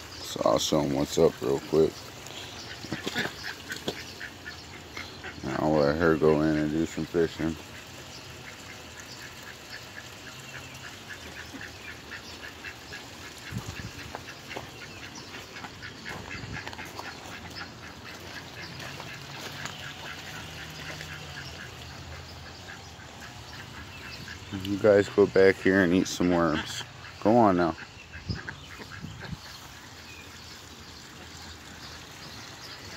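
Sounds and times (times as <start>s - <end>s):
ducks quacking softly: 0.1s - 32.9s.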